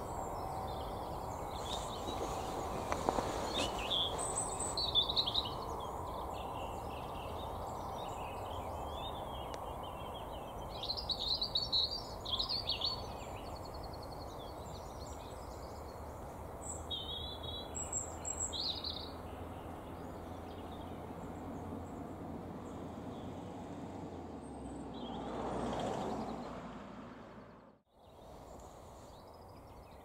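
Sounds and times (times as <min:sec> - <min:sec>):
small birds singing: 0:00.0 - 0:23.6, 0:24.4 - 0:26.6, 0:27.9 - 0:30.0.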